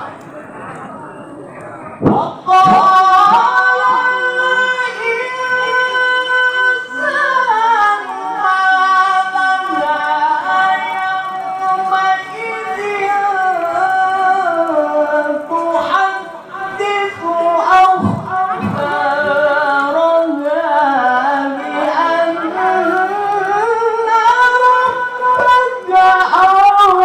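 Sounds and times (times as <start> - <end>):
man reciting in melismatic chant: 1.5 - 27.0.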